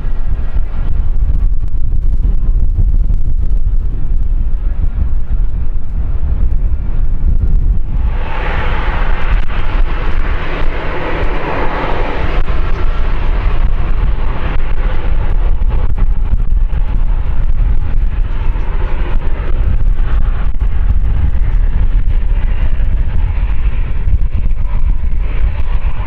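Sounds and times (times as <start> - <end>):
aircraft engine passing: 0.0 - 1.6, 3.6 - 26.0
wind rumble on microphone: 0.0 - 26.0.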